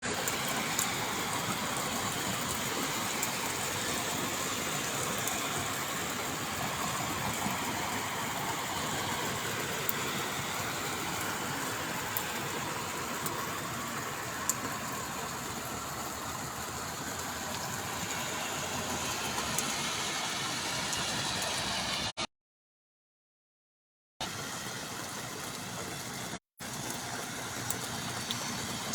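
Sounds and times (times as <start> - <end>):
heavy rain falling: 0.0 - 22.1, 24.2 - 28.9.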